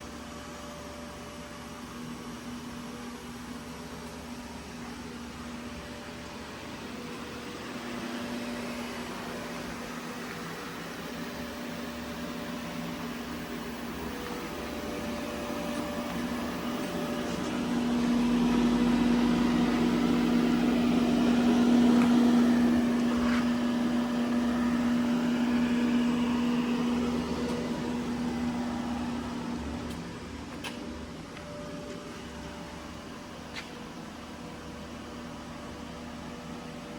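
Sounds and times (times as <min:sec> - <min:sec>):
machine humming with strong tone: 0:00.0 - 0:36.9.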